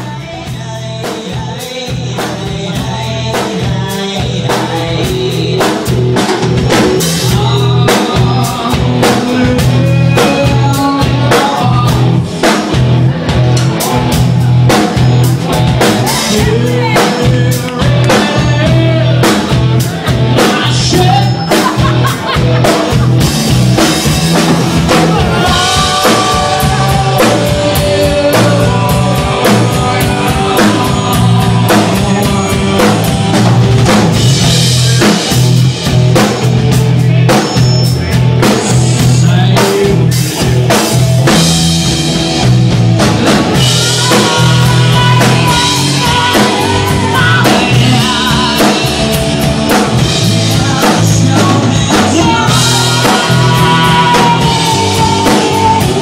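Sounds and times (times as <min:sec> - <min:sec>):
person singing: 0:00.0 - 0:41.7, 0:42.4 - 0:56.0
bass and electric guitar: 0:00.0 - 0:56.0
drum kit beating: 0:00.0 - 0:56.0.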